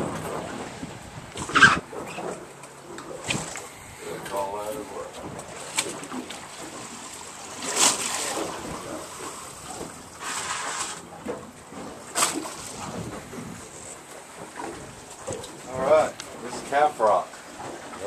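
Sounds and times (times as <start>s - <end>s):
water sloshing against boat hull: 0.0s - 18.0s.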